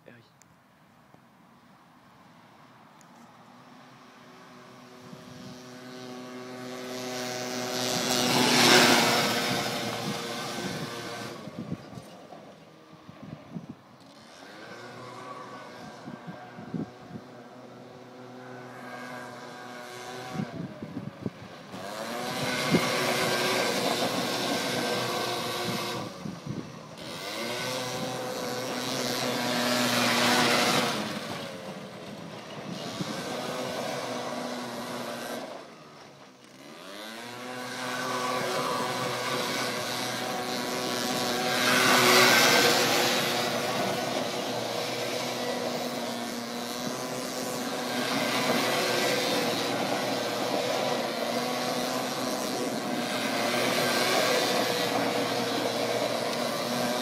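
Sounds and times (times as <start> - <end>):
small scooter engine revving: 3.8 - 57.0.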